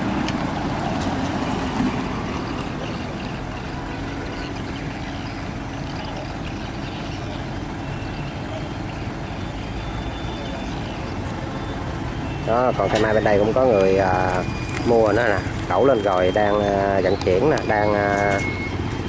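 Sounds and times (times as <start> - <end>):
crane diesel engine running: 0.0 - 19.0.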